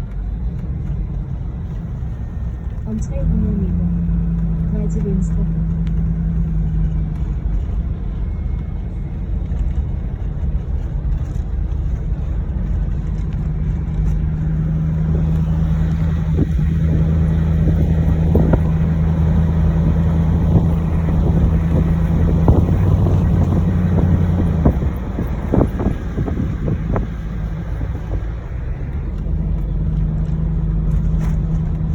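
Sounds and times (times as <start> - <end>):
car engine droning: 0.0 - 31.9
tyres rumbling on sand: 0.0 - 31.9.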